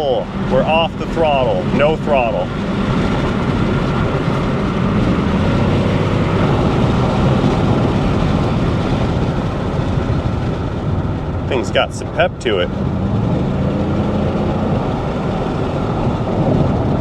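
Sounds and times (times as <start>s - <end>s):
car engine coasting: 0.0s - 17.0s
road noise: 0.0s - 17.0s.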